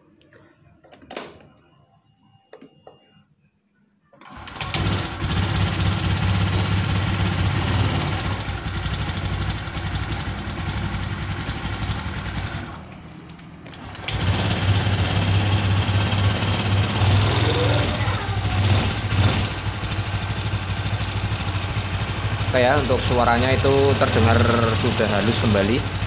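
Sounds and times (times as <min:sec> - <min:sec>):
scooter engine running: 0:04.2 - 0:26.0.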